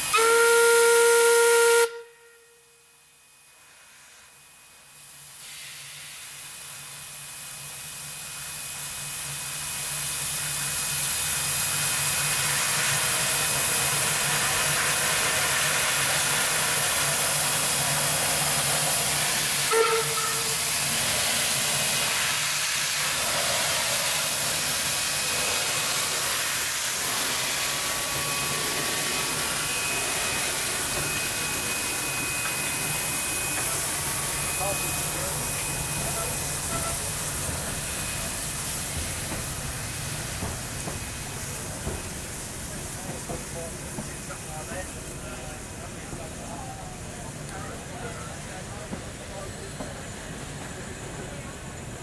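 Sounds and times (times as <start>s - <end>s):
hiss of venting steam: 3.5s - 52.0s.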